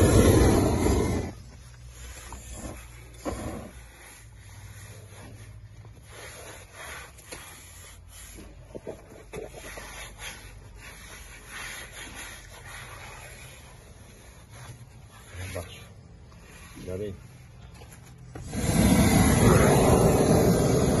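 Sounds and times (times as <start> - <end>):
gloved hands rubbing membrane: 0.1 - 18.8.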